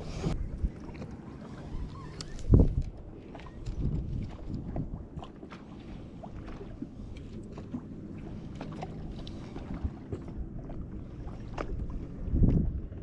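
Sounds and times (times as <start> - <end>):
steady low rumble: 2.4 - 13.0.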